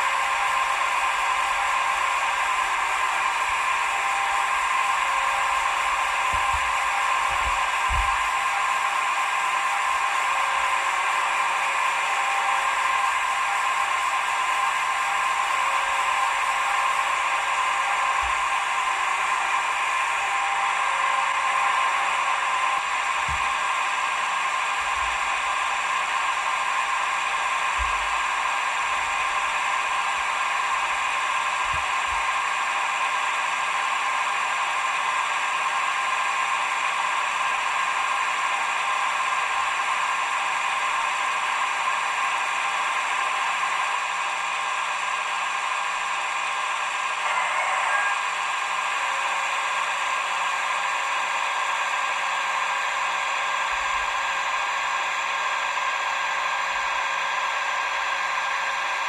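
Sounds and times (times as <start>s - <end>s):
model crane whirring through speaker: 0.0s - 59.0s.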